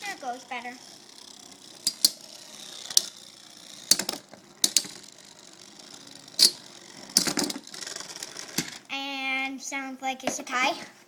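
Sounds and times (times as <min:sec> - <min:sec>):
spinning tops clacking metallically: 0:00.0 - 0:08.9
whir of spinning tops: 0:00.0 - 0:09.0.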